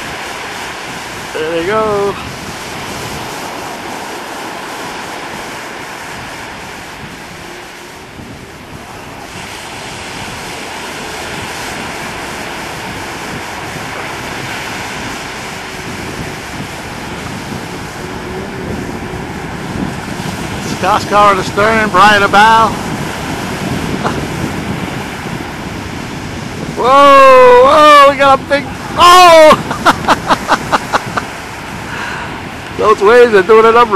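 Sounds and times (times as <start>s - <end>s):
choppy sea and breaking surf: 0.0s - 33.9s
wind buffeting microphone: 0.0s - 33.9s.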